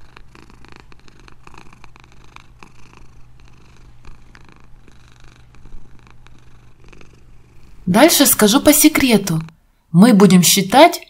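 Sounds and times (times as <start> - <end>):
cat purring: 0.0 - 9.6.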